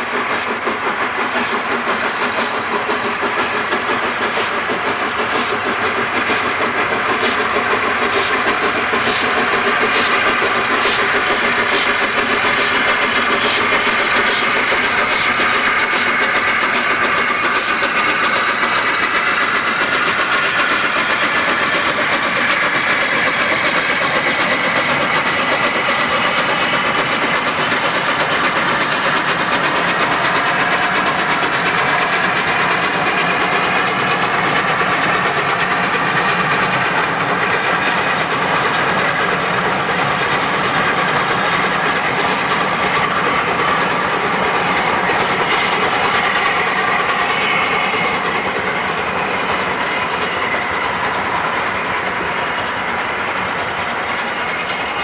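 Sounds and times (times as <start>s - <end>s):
steam locomotive exhaust: 0.0s - 55.0s
train wheels on rails: 0.0s - 55.0s.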